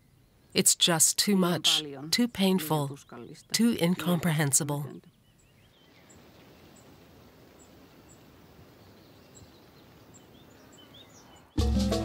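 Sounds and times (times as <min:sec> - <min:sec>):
low steady hiss: 0:00.0 - 0:11.6
bird chirps: 0:01.5 - 0:11.6.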